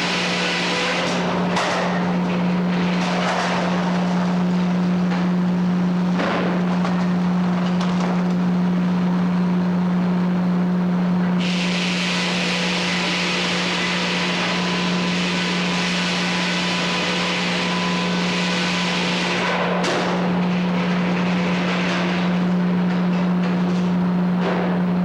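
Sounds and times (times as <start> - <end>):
sawmill humming: 0.0 - 6.2, 6.8 - 22.9.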